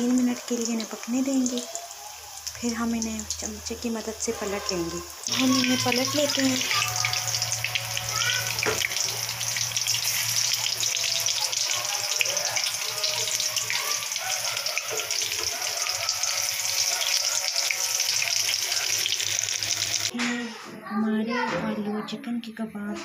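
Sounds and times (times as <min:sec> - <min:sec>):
food sizzling in hot oil: 0:00.0 - 0:20.1.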